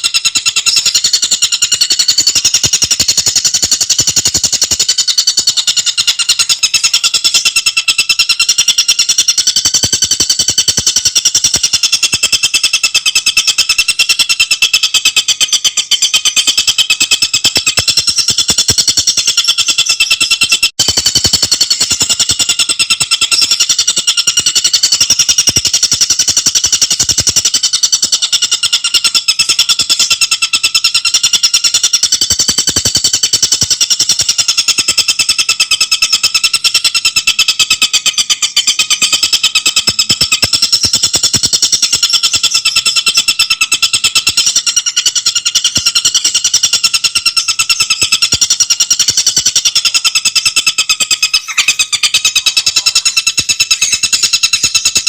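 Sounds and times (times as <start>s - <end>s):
bird singing a rattling trill: 0.0s - 55.0s.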